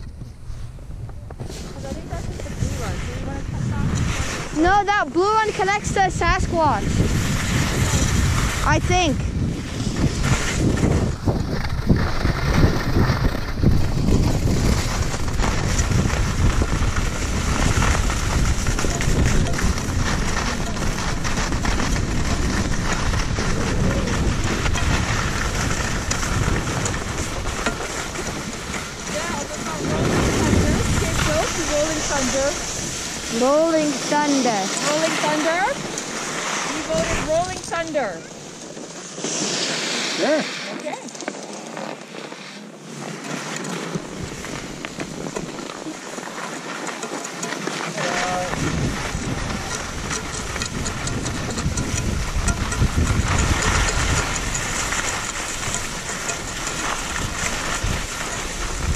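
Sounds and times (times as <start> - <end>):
wind rushing on microphone: 0.0 - 38.4, 48.0 - 58.9
skis scraping over snow: 0.0 - 58.9.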